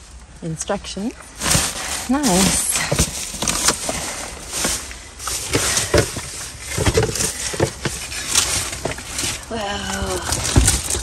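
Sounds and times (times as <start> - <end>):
plastic packaging rustling: 1.2 - 11.0.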